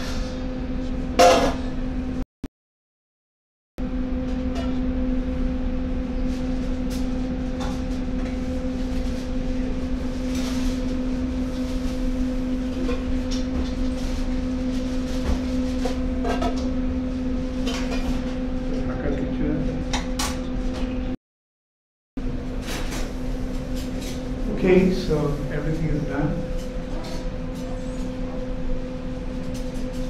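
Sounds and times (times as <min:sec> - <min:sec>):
mechanical hum: 0:00.0 - 0:02.2, 0:03.8 - 0:21.2, 0:22.2 - 0:30.0.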